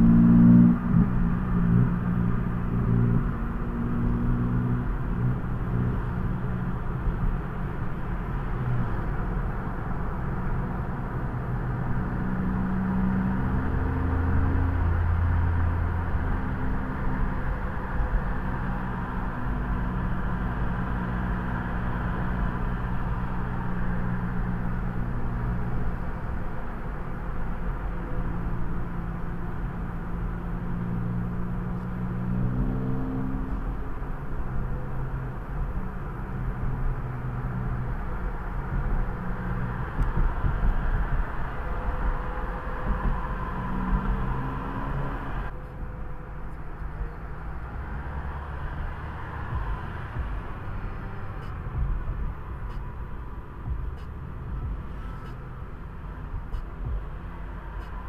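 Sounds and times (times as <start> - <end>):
car engine hum: 0.0 - 58.0
tyre and road noise: 0.0 - 58.0.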